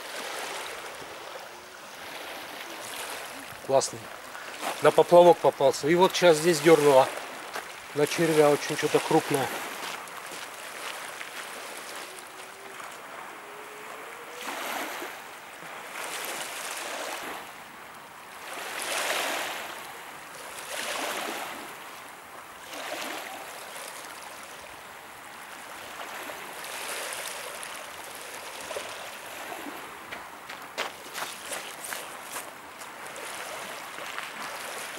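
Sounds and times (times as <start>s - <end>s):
small waves on pebble shore: 0.0s - 34.9s.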